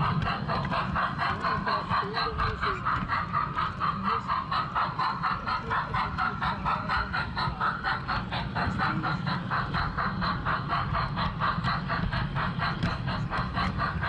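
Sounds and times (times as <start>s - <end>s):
model train chuffing: 0.0s - 14.0s
rumble of wheels and motor: 0.0s - 14.0s.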